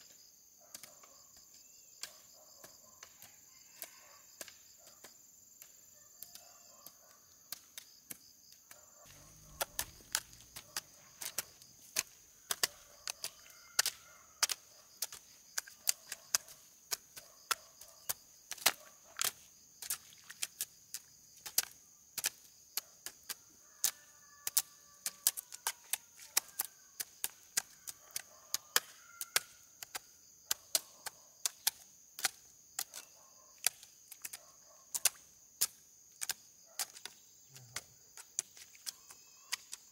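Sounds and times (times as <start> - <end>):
insect chirring: 0.0 - 39.9.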